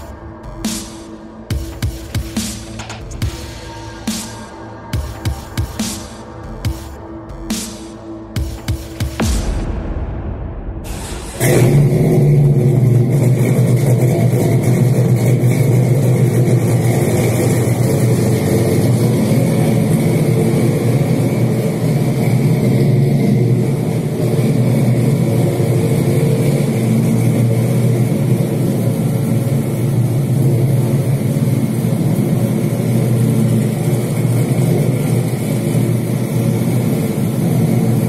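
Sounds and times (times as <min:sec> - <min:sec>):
deep vehicle exhaust rumble: 0:00.0 - 0:38.0.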